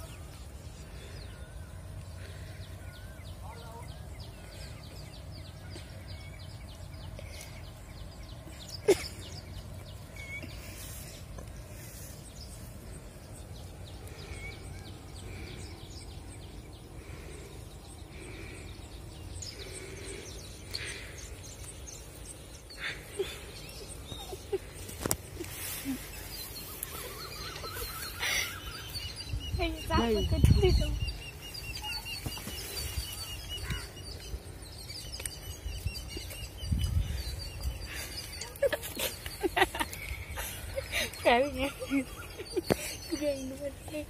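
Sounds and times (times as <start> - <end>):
faint bird chirps: 0.0 - 44.0.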